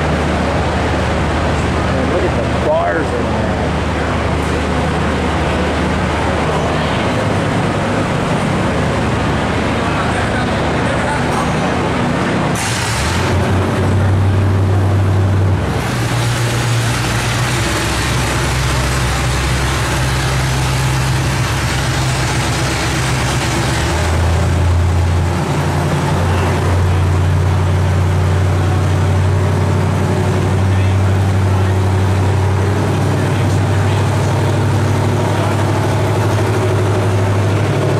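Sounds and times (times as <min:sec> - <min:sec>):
low mechanical drone with hiss: 0:00.0 - 0:37.9.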